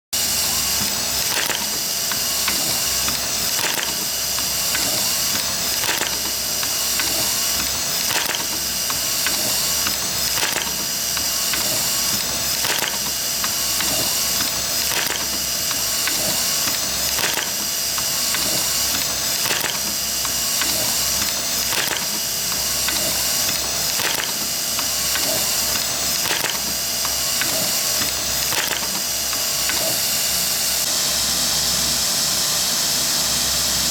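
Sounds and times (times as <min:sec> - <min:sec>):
soldering robot clicks and motors: 0:00.2 - 0:30.9.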